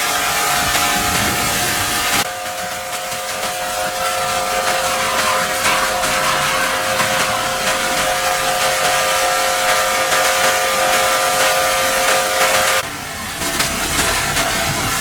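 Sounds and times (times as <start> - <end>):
hiss: 0.0 - 12.8.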